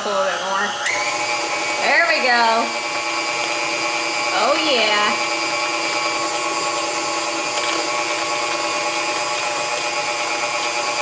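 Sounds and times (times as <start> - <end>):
stand mixer motor whining: 0.0 - 11.0.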